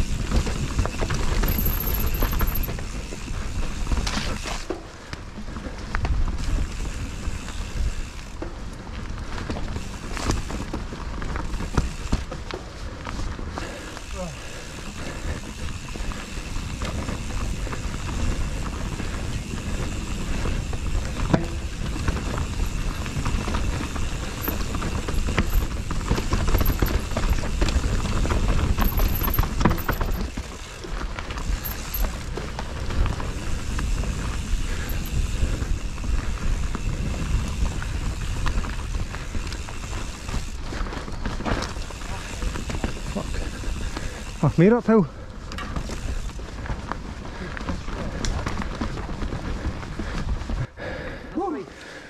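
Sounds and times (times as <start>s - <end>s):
bike rattling and knocking: 0.0s - 50.7s
tyres on dirt and roots: 0.0s - 52.0s.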